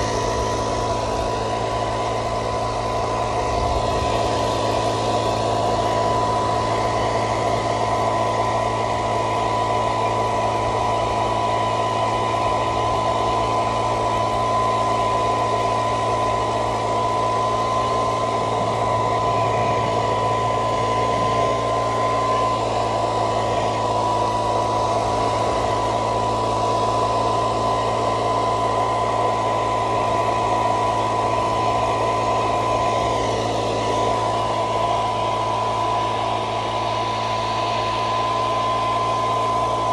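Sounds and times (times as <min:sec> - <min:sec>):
air blower rushing: 0:00.0 - 0:39.9
low hum: 0:00.0 - 0:39.9.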